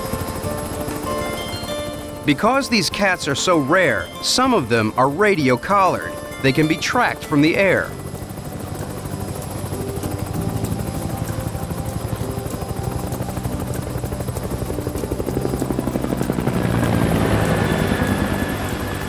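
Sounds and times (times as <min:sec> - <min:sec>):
helicopter engine hum: 0:00.0 - 0:19.0
helicopter rotor chop: 0:00.0 - 0:19.0.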